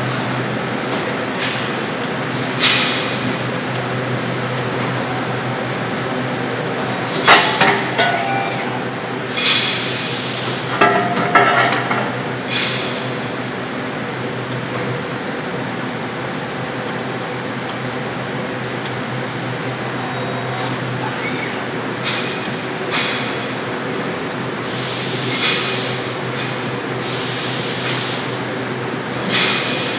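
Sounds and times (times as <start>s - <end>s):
machine mechanical hum: 0.0s - 29.9s.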